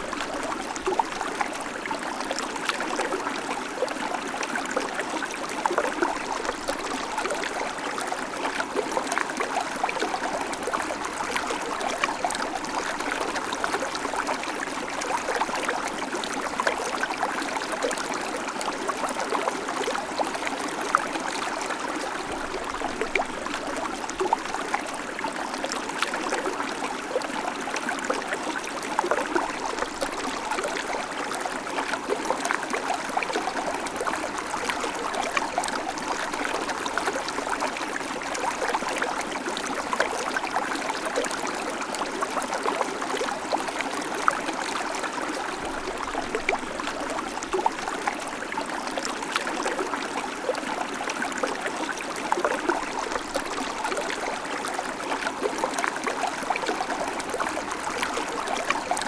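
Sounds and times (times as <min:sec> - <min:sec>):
creek water gurgling over stones: 0:00.0 - 0:59.0.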